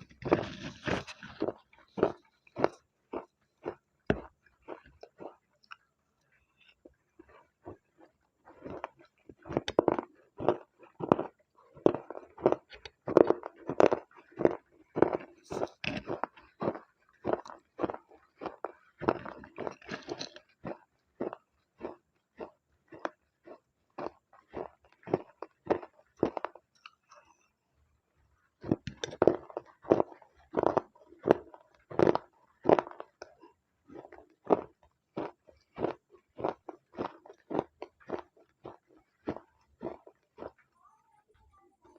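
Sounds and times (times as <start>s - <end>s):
crunchy wet chewing: 0.0s - 40.8s.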